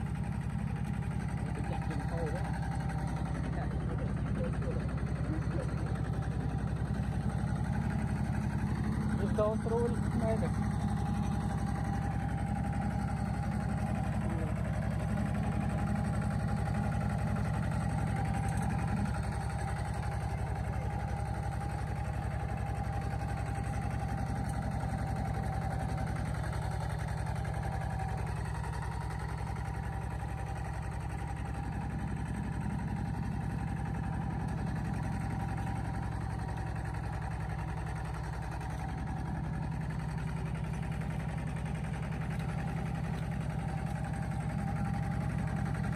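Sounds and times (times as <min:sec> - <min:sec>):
vehicle engine droning: 0:00.0 - 0:45.9.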